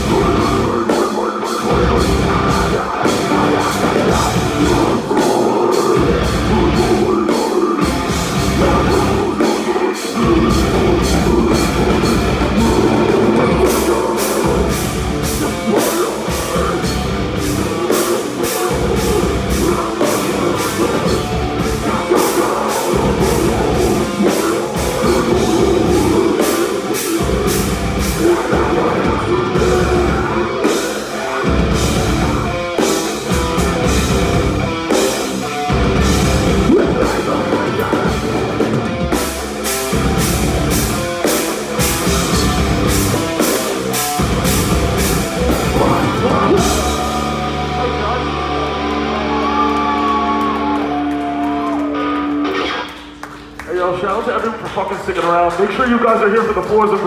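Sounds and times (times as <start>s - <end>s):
drum kit with rapid cymbals: 0.0s - 48.2s
bass guitar: 0.0s - 57.0s
distorted electric guitar: 0.0s - 57.0s.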